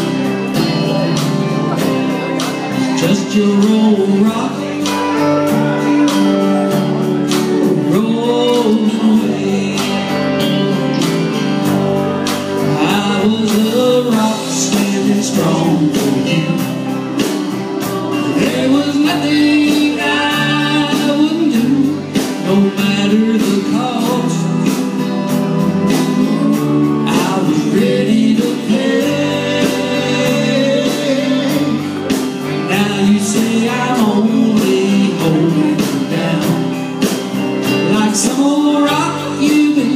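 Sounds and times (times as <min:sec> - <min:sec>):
live country band playing: 0:00.0 - 0:39.9
man singing: 0:00.0 - 0:39.9.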